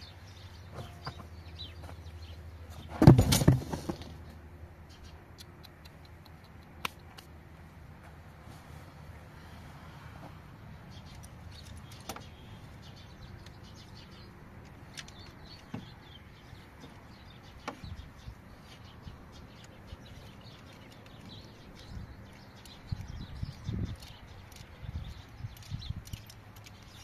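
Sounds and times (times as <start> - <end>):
small birds chirping: 0.0 - 7.3, 8.5 - 27.0.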